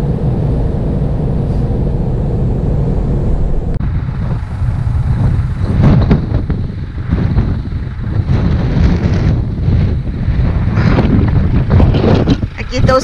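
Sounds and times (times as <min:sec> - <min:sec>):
car cabin road rumble: 0:00.0 - 0:13.0
wind buffeting microphone: 0:00.0 - 0:13.0.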